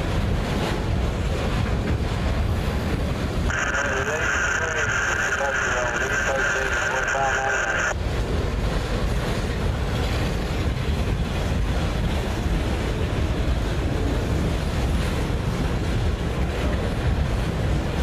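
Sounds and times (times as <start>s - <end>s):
train wheels rumbling on rail: 0.0s - 5.7s, 7.8s - 18.0s.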